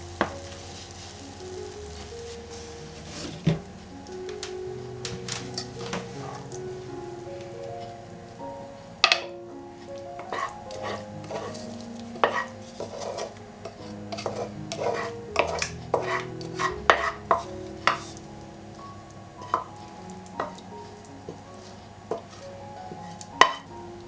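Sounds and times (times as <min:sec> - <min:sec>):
utensils and dishes clinking: 0:00.0 - 0:08.0, 0:10.2 - 0:23.7
soft background music: 0:00.0 - 0:24.0.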